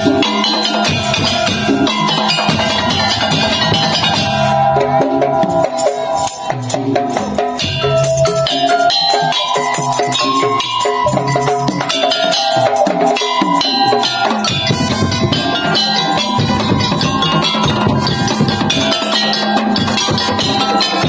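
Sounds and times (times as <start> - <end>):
heavy low drum beats: 0.0 - 21.0
pitched percussion melody: 0.0 - 21.0.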